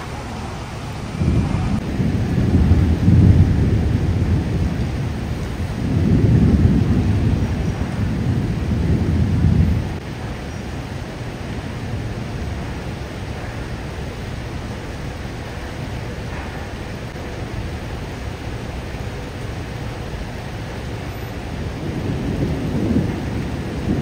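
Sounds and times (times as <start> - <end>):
low rumble: 0.0 - 24.0
steady rain: 0.0 - 24.0.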